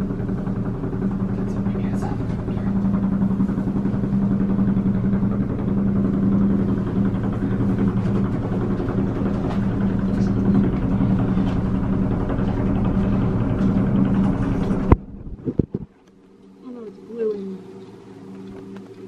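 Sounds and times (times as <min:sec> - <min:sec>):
helicopter rotor and turbine: 0:00.0 - 0:15.9.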